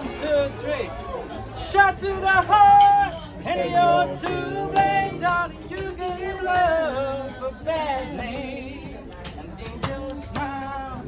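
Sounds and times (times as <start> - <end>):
backing music track: 1.4 - 11.0
man singing: 1.6 - 11.0.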